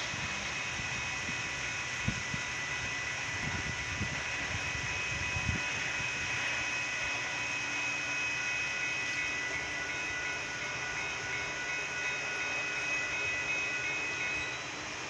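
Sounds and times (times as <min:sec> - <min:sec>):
crossing warning bells: 0:00.0 - 0:15.0
train rushing past: 0:00.0 - 0:15.0.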